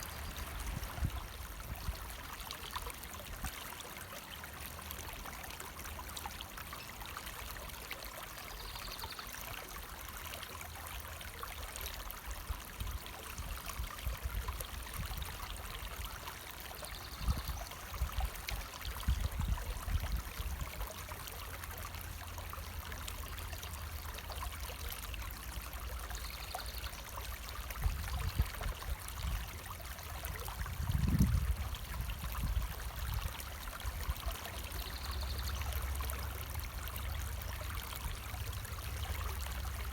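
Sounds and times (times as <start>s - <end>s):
stream water running over rocks: 0.0s - 39.9s.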